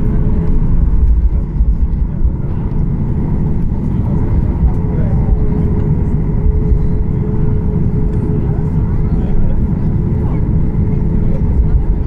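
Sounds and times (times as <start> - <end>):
airplane cabin rumble and engine hum: 0.0 - 12.0.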